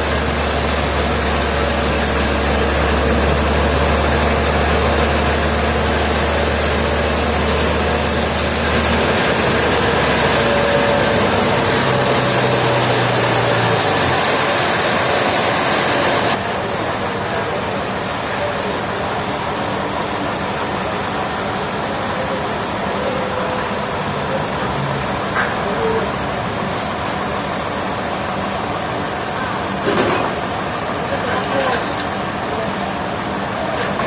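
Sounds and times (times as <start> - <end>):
sawmill engine drone: 0.0 - 34.0.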